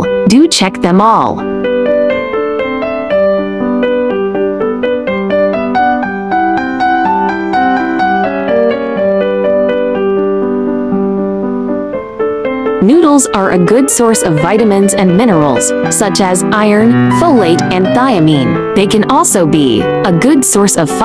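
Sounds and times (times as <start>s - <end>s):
light piano tune: 0.0s - 21.0s.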